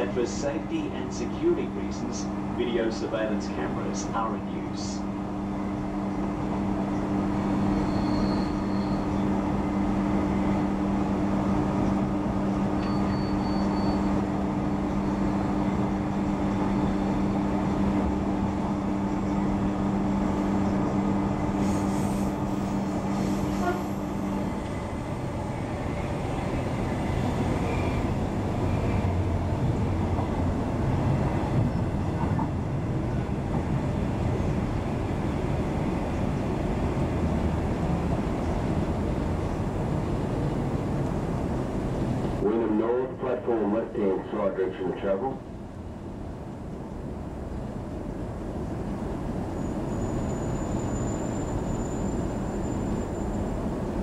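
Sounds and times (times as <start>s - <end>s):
train wheels on rail: 5.7s - 42.4s, 45.5s - 54.0s.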